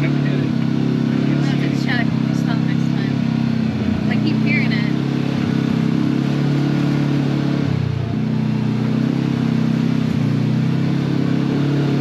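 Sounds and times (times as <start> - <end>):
utility vehicle engine under load: 0.0 - 12.0.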